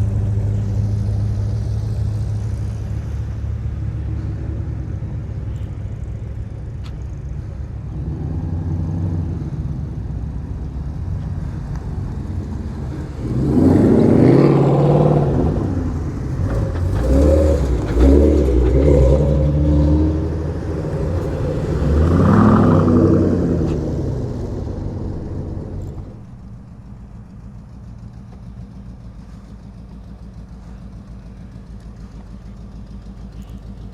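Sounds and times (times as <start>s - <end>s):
cars driving past: 0.0s - 33.9s.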